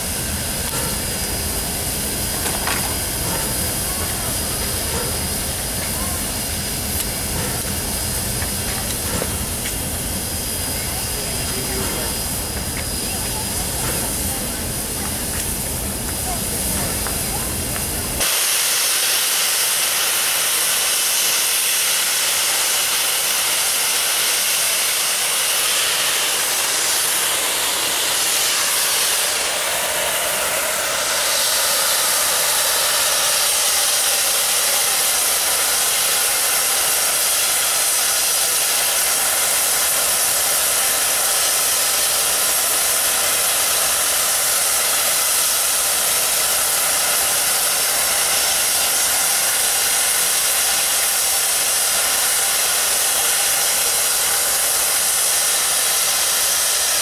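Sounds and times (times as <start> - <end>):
steam venting hiss: 0.0 - 57.0.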